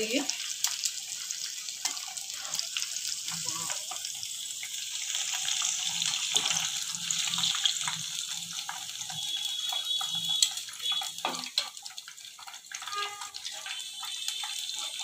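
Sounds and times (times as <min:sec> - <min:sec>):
prawns sizzling in hot oil: 0:00.0 - 0:15.0.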